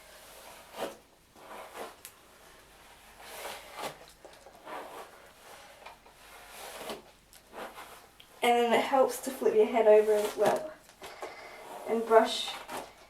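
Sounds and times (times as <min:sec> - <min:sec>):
hairbrush brushing through hair: 0:00.0 - 0:02.2, 0:02.9 - 0:10.7, 0:11.6 - 0:13.0.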